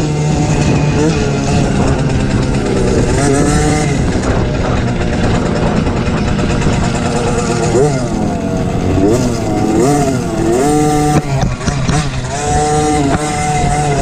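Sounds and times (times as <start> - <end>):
two-stroke motorbike engine revving: 0.0 - 14.0
wind noise: 0.0 - 14.0.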